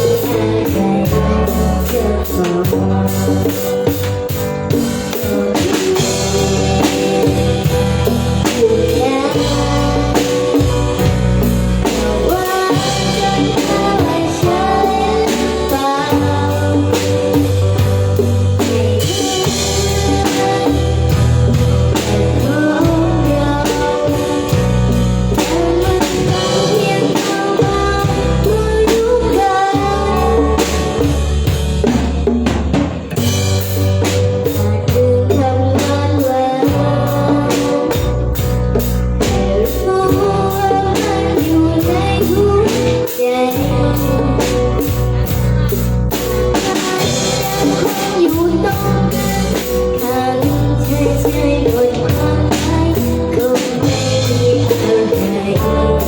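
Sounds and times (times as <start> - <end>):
person singing: 0.0 - 32.2, 33.2 - 56.0
bass guitar: 0.0 - 56.0
drum kit: 0.0 - 56.0.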